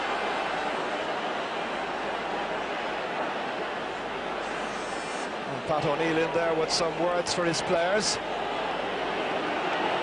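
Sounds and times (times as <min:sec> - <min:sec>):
stadium crowd noise: 0:00.0 - 0:10.0.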